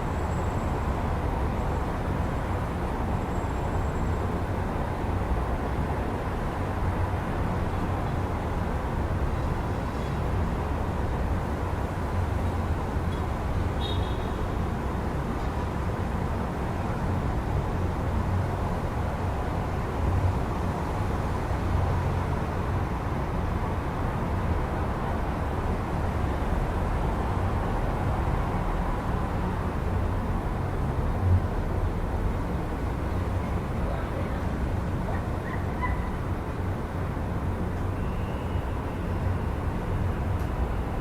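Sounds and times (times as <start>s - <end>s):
city traffic rumble: 0.0s - 41.0s.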